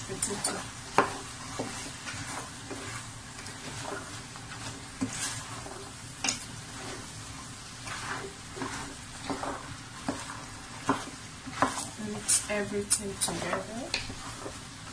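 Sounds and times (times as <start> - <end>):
oil sizzling: 0.0 - 14.9
wooden spoon scraping food in pot: 0.0 - 14.9.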